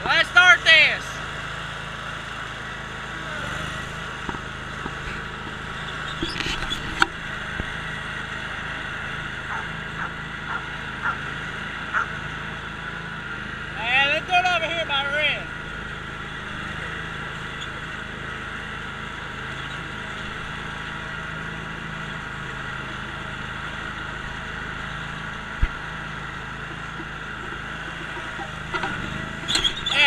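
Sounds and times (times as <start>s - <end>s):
mower engine running: 0.0s - 30.0s.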